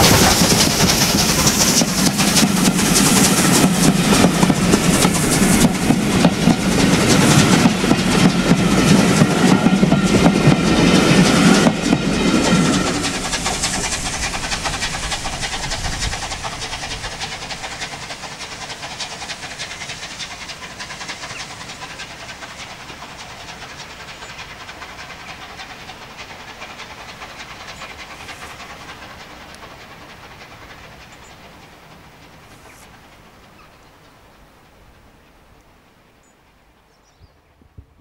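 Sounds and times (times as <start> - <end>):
steam train wheels clattering: 0.0 - 36.4.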